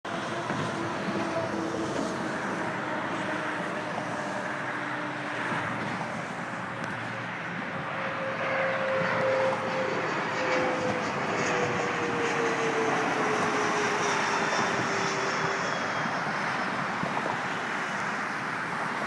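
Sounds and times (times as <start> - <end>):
airplane flying over: 0.1 - 19.0.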